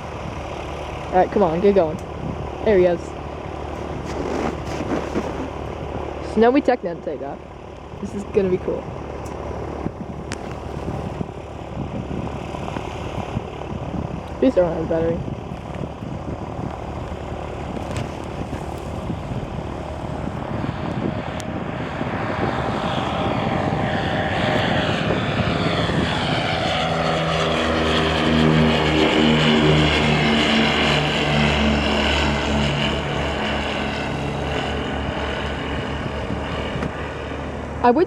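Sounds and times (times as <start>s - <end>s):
light aircraft engines at takeoff: 0.0s - 38.0s.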